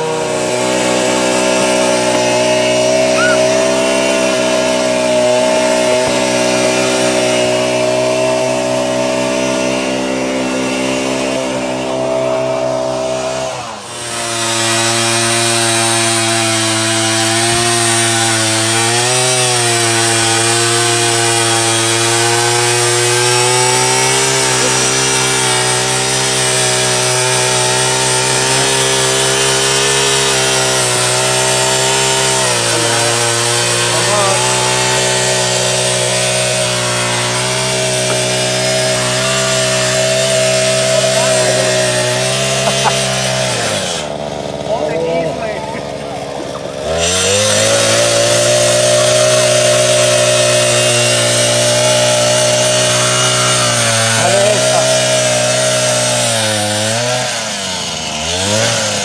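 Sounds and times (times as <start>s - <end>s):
ice auger engine running: 0.0s - 59.0s
steady engine drone: 0.0s - 59.0s.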